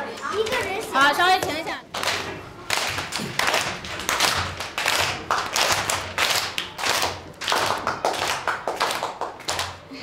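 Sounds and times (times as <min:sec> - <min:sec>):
rhythmic hand clapping: 0:01.4 - 0:10.0.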